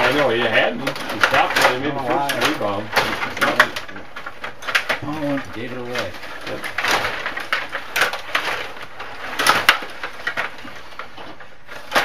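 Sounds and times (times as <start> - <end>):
plastic players and puck knocking: 0.0 - 12.0
rod hockey rods clacking and rattling: 0.0 - 12.0.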